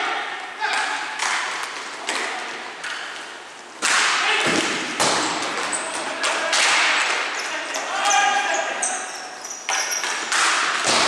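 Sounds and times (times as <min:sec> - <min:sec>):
hockey sticks and ball cracking: 0:00.4 - 0:11.0.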